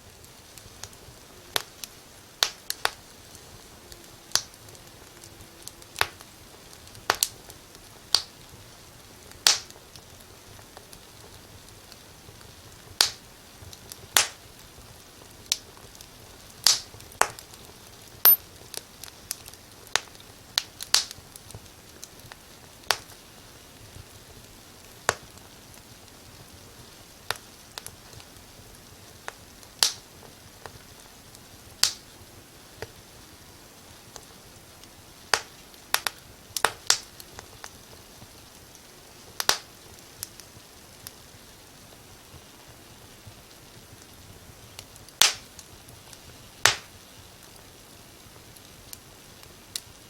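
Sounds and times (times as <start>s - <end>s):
faint steady hiss: 0.0s - 50.0s
wood fire crackling: 0.0s - 50.0s.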